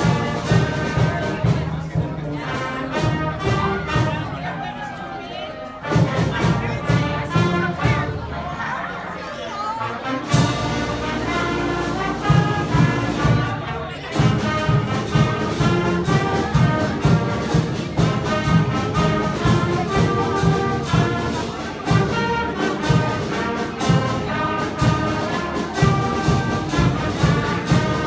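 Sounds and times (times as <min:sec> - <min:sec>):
concert band playing: 0:00.0 - 0:28.0.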